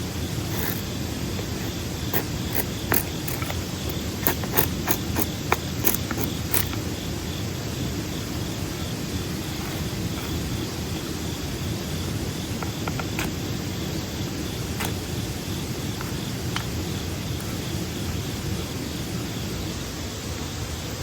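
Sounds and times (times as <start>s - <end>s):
campfire crackling: 0.0s - 19.7s
insect trill: 0.0s - 21.0s.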